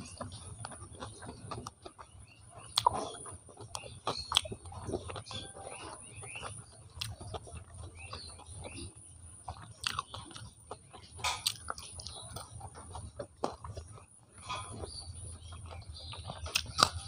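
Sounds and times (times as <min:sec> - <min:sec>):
chewing with mouth smacks: 0:00.0 - 0:17.0.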